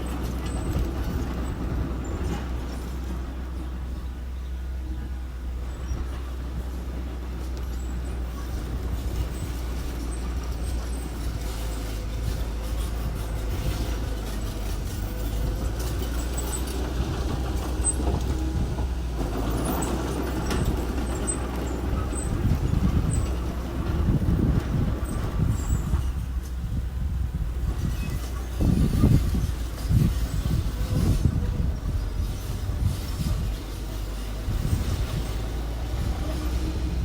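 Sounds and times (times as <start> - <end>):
heavy engine rumbling: 0.0 - 37.0.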